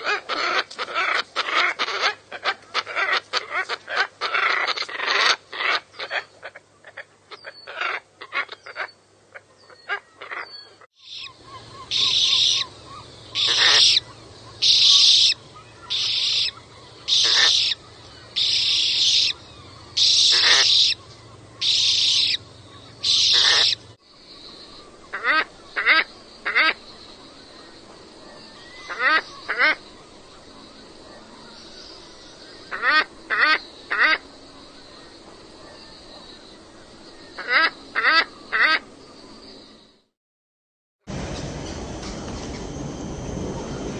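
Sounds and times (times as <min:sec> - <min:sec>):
birds calling harshly: 0:00.0 - 0:39.9.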